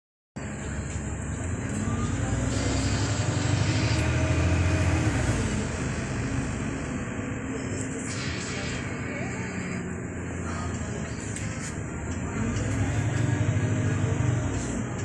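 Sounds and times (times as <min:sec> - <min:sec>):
engine cooling fan roaring: 0:00.4 - 0:15.0
low engine drone: 0:00.4 - 0:15.0.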